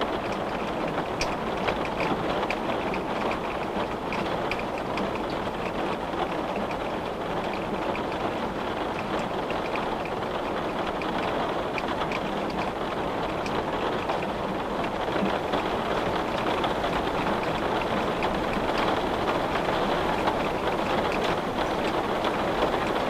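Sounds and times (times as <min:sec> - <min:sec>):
raindrops tapping on a window: 0:00.0 - 0:23.0
steady rain: 0:00.0 - 0:23.0.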